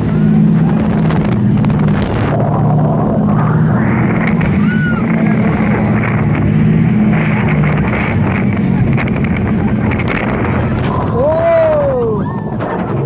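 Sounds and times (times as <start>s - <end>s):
boat engine droning: 0.0s - 13.0s
rushing wind: 0.0s - 13.0s.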